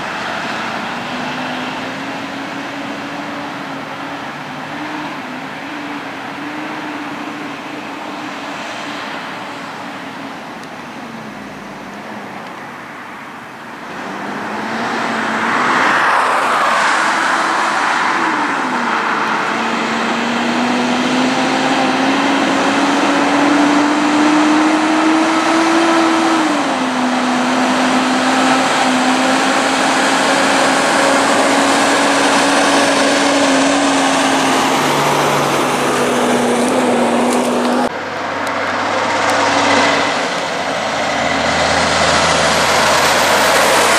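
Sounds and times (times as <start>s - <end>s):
truck engine passing: 0.0s - 43.9s.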